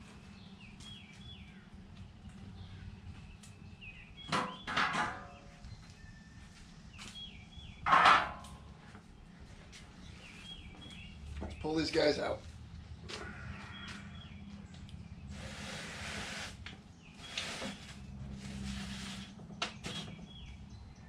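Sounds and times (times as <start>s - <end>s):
small birds chirping: 0.0s - 7.9s, 8.8s - 21.0s.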